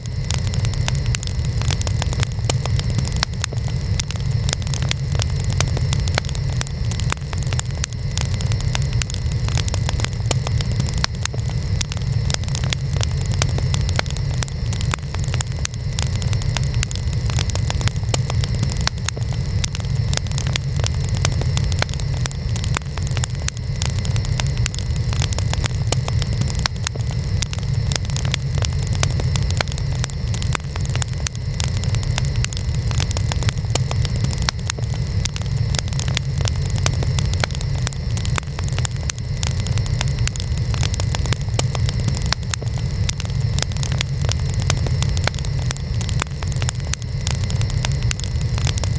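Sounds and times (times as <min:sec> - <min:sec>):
burning wood crackling and popping: 0:00.0 - 0:48.9
low rumble of flames: 0:00.0 - 0:48.9.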